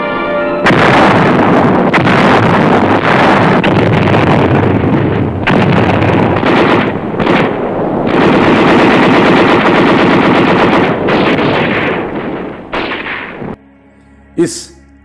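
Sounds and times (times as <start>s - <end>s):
machine-gun fire bursts: 0.7s - 13.6s.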